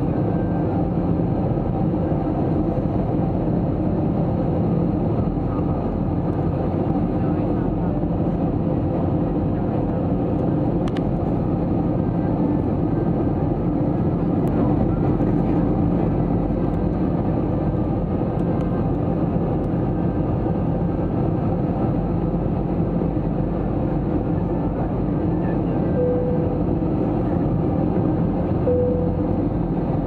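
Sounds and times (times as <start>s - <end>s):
airflow and engine hum in cabin: 0.0s - 30.0s.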